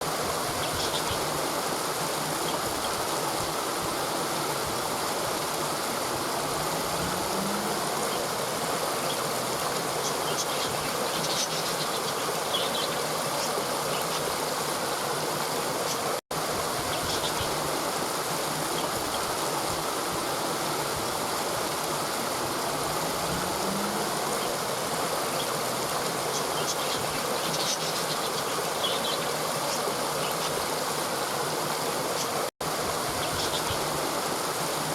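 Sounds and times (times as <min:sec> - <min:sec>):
river water rushing over rocks: 0:00.0 - 0:34.9.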